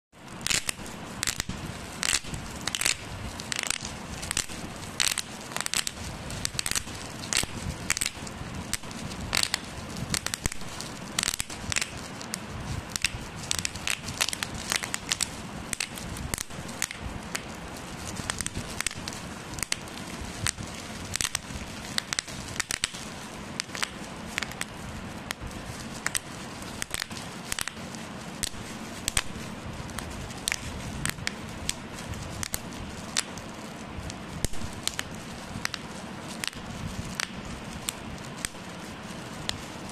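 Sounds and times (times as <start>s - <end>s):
bubble wrap popping: 0.2s - 39.9s
plastic crinkling: 0.2s - 39.9s.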